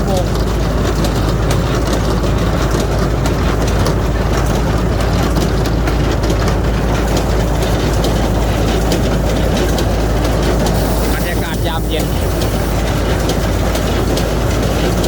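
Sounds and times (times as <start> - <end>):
hay baler engine drone: 0.0 - 15.0
mechanical rattle: 0.4 - 15.0.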